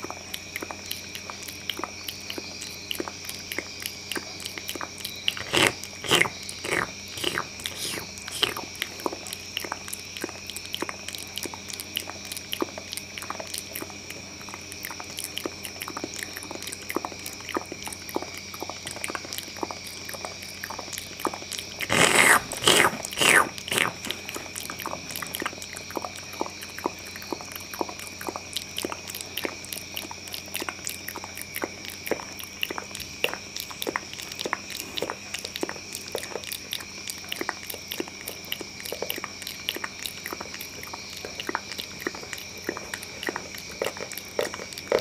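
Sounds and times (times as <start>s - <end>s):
wet mouth clicks and smacks: 0.0s - 45.0s.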